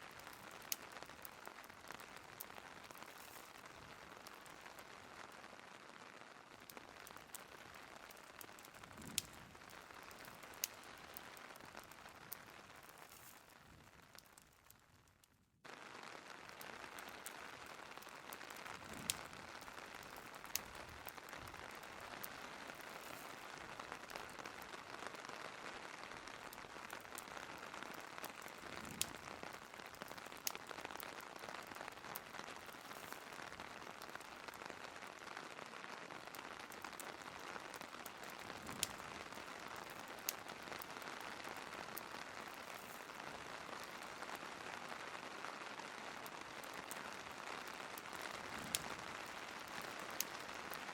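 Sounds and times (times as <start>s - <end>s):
crackling fireplace: 0.0s - 50.9s
steady rain: 0.0s - 50.9s.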